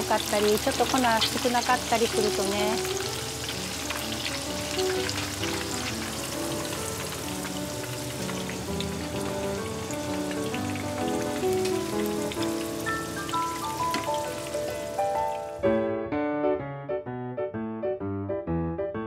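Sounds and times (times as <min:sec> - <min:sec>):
fritters sizzling in hot oil: 0:00.0 - 0:15.6
gentle background music: 0:00.0 - 0:16.6.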